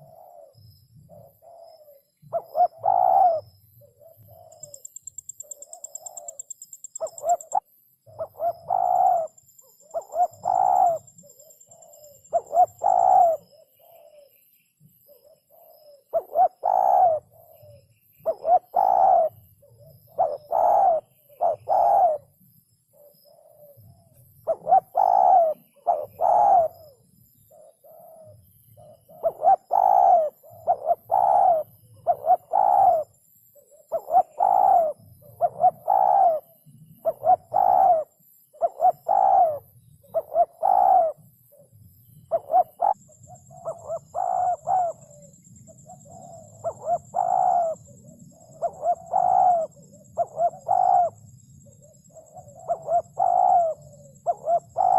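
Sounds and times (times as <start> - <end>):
dove cooing: 0.0 - 14.4, 15.0 - 54.9.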